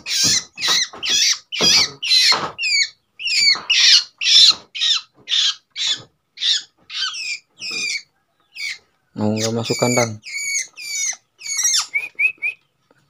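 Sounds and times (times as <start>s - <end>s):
shrikes calling: 0.0s - 12.6s.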